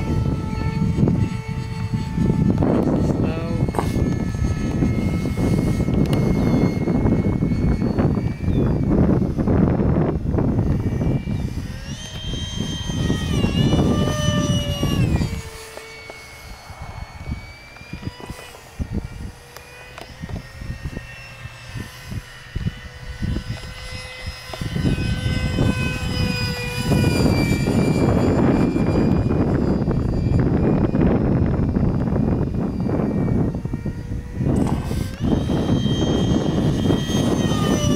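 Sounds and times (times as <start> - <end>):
electric ducted fan whining: 0.0 - 37.9
wind rumble on microphone: 0.0 - 37.9.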